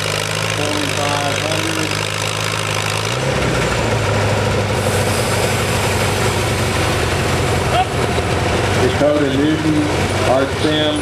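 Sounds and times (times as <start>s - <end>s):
tractor engine running hard: 0.0s - 11.0s.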